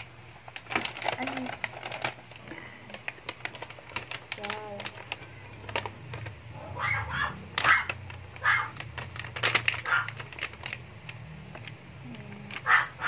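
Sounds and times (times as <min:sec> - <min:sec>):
paper bag crinkling: 0:00.0 - 0:06.4, 0:07.5 - 0:13.0.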